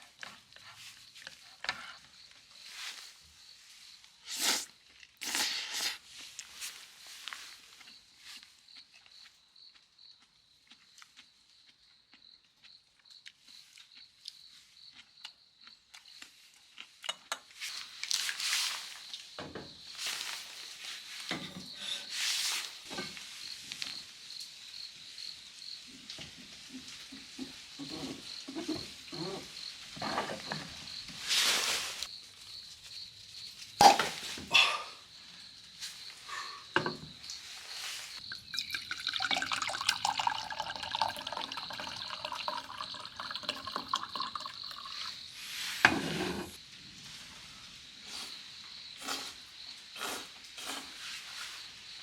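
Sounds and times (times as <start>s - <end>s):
insect chirping: 0.3s - 6.0s, 6.6s - 16.5s, 17.6s - 52.0s.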